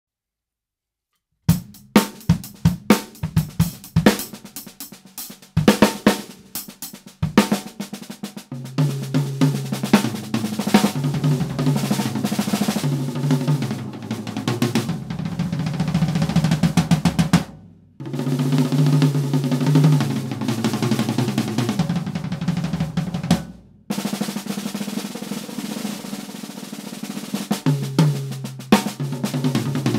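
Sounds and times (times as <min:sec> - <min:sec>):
drum kit played with sticks: 0:01.5 - 0:29.9.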